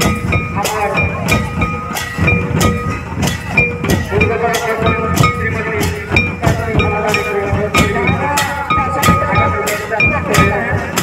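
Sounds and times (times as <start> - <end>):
barrel drums beaten: 0.0 - 11.0.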